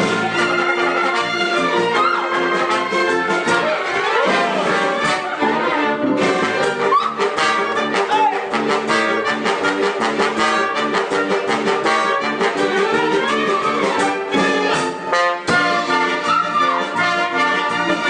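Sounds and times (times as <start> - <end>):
orchestra with brass: 0.0 - 18.0.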